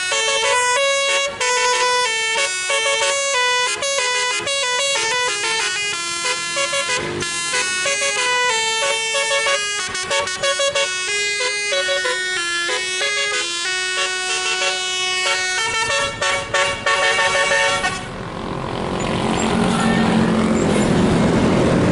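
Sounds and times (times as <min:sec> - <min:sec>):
bus horn playing a tune: 0:00.0 - 0:18.2
vehicle noise: 0:00.0 - 0:21.9.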